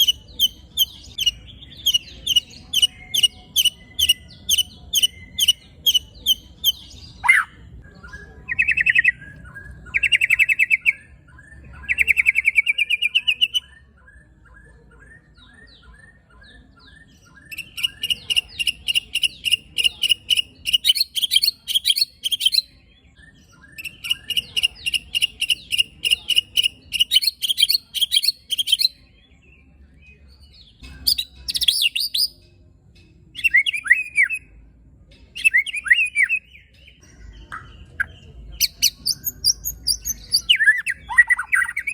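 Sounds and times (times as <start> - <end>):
bird singing rapid notes: 0.0 - 29.0, 35.3 - 41.9.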